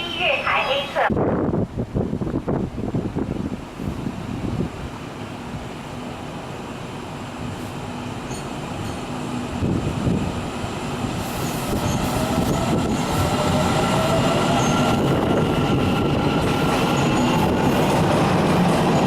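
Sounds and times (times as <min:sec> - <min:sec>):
train rail noise: 0:00.0 - 0:19.0.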